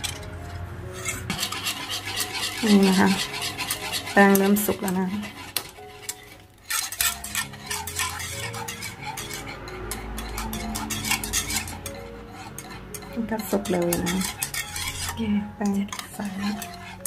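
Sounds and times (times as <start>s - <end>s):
utensil scraping in a pot: 0.0s - 17.0s.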